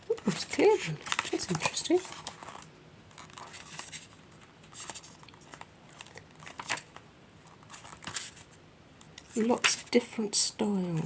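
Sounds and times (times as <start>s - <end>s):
paper and plastic rustling: 0.0s - 10.0s.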